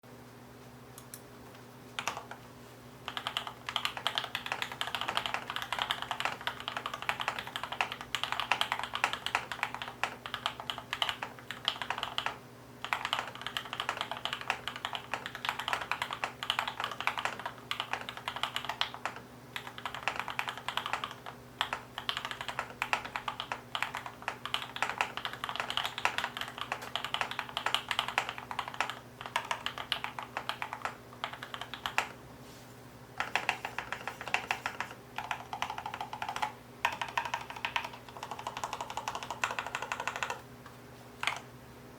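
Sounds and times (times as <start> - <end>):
typing on mechanical keyboard: 2.0 - 2.4, 3.1 - 32.2, 33.2 - 40.4, 41.2 - 41.4.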